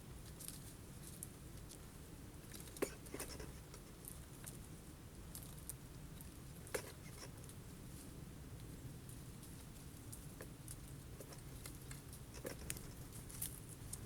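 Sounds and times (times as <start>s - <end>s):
birds pecking at seeds: 0.0s - 14.0s
faint low rumble: 0.0s - 14.0s.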